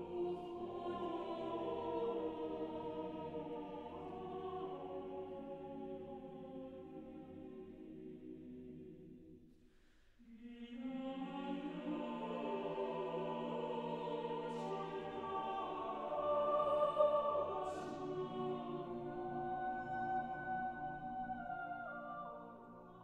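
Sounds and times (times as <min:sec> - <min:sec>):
choir singing held chords: 0:00.0 - 0:09.4, 0:10.3 - 0:23.0.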